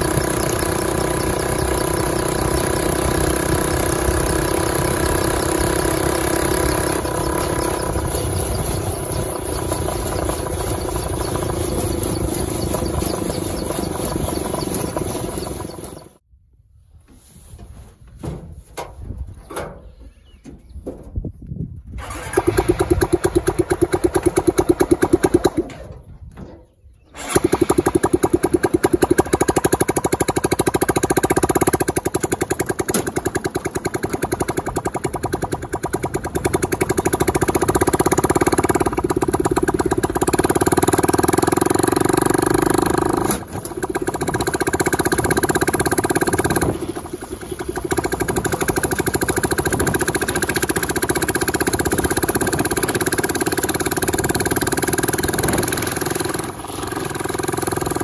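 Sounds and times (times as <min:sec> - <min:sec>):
motorcycle engine running: 0:00.0 - 0:16.2, 0:22.0 - 0:25.6, 0:27.2 - 0:58.0.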